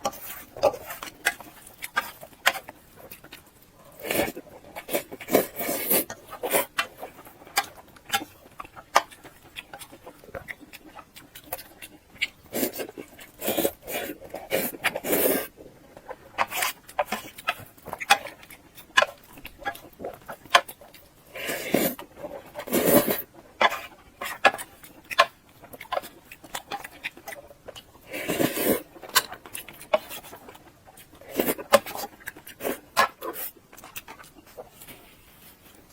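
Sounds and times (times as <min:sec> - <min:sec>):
wet chewing and lip smacking: 0:00.1 - 0:21.2, 0:23.3 - 0:35.9.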